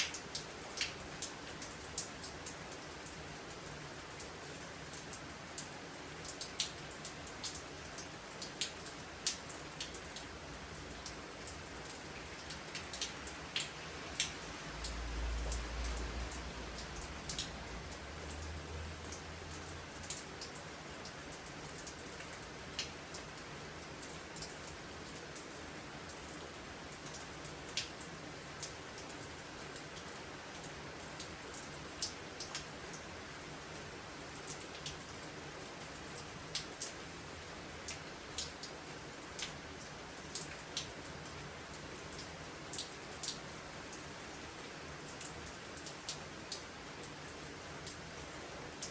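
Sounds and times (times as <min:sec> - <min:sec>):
raindrops ticking on a surface: 0:00.0 - 0:48.9
steady rain: 0:00.0 - 0:48.9.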